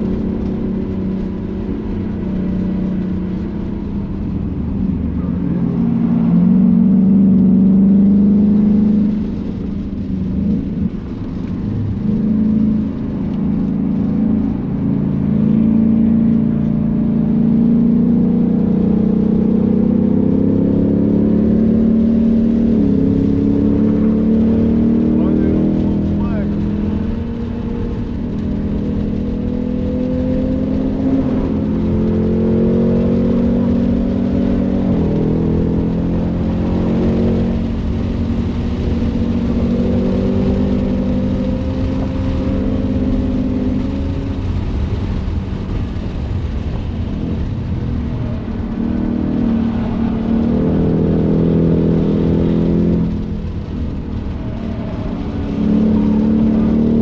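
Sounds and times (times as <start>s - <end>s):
car engine accelerating: 0.0s - 57.0s
road and wind rumble: 0.0s - 57.0s.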